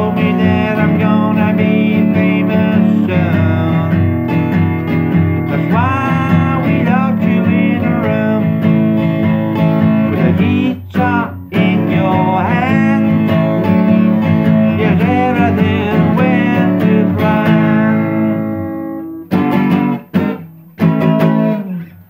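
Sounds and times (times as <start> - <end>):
man singing: 0.0 - 18.8
acoustic guitar strumming: 0.0 - 22.0.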